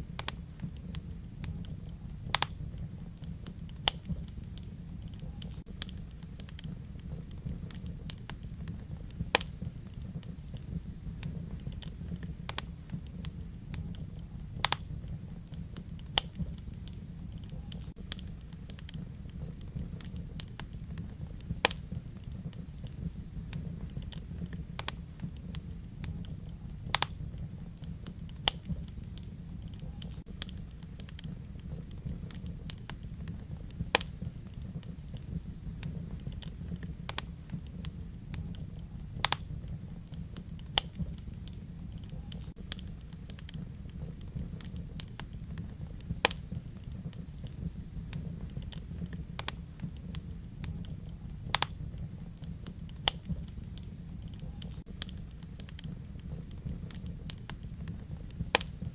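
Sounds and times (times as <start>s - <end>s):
loud fire pops: 0.0s - 58.9s
wood fire crackling: 0.0s - 58.9s.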